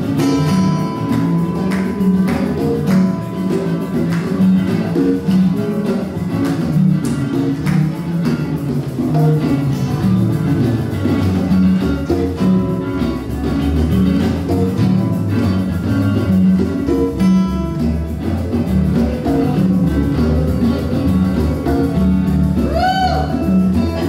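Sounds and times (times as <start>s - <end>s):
acoustic guitar: 0.0s - 24.0s
electric guitars: 0.0s - 24.0s.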